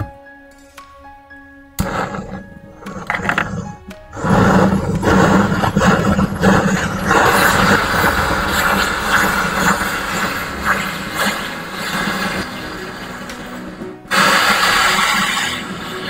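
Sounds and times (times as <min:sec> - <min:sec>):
torch flame hissing: 0:01.8 - 0:16.0.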